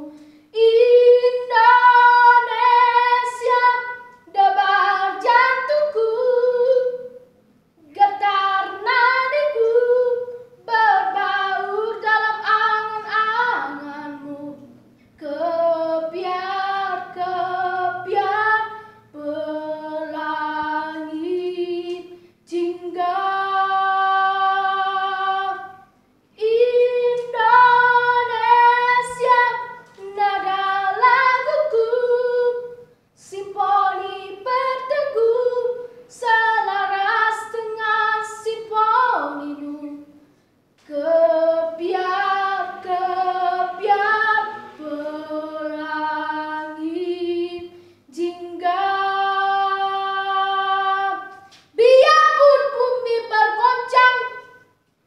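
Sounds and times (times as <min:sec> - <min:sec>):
boy singing unaccompanied: 0:00.0 - 0:07.2, 0:07.8 - 0:40.1, 0:40.8 - 0:54.6.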